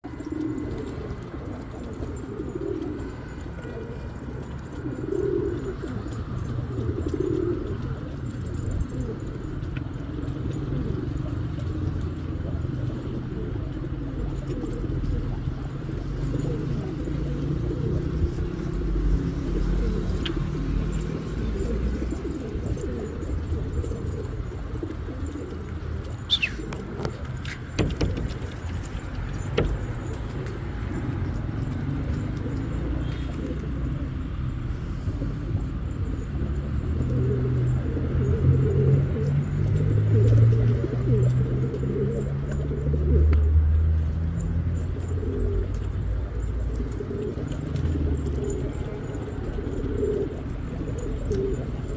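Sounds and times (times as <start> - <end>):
pigeons cooing: 0.0 - 51.9.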